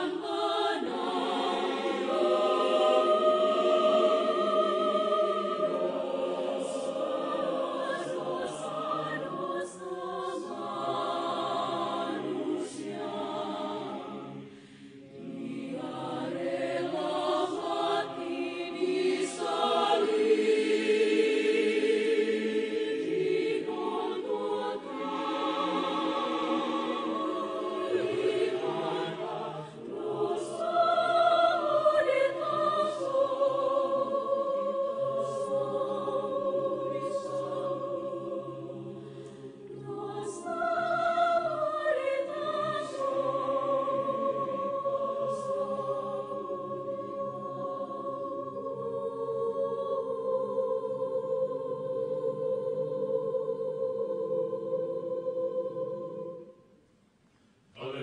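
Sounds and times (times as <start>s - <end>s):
mixed choir singing: 0.0s - 56.8s, 57.8s - 58.0s.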